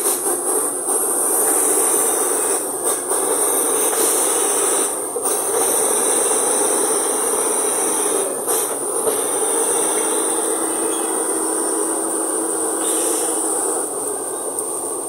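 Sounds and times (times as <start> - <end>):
diesel engine under load: 0.0 - 15.0
steel tracks grinding and squealing: 0.0 - 15.0.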